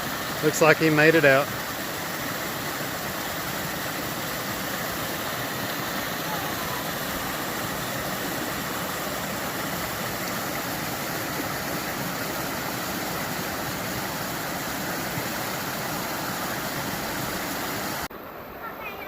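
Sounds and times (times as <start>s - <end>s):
creek water rushing over rocks: 0.0s - 19.0s.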